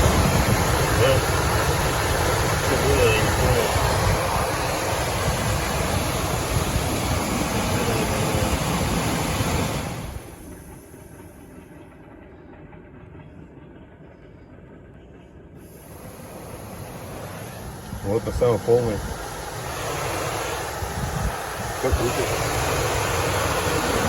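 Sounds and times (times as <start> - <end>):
heater blower fan running: 0.0 - 24.0.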